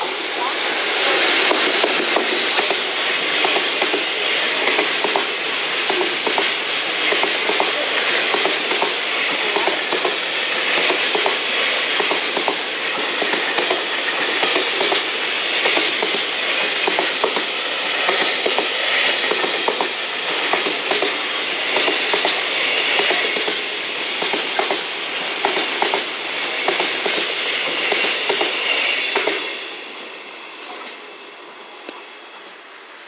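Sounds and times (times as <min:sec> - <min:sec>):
electric locomotive passing: 0:00.0 - 0:33.0.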